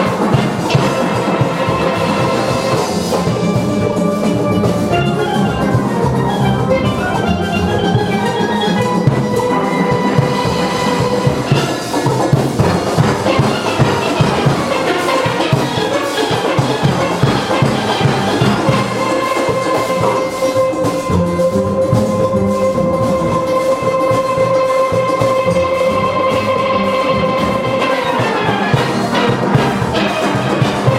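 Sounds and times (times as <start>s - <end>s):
drum and percussion rhythm: 0.0s - 30.9s
steel pans playing: 0.0s - 30.9s.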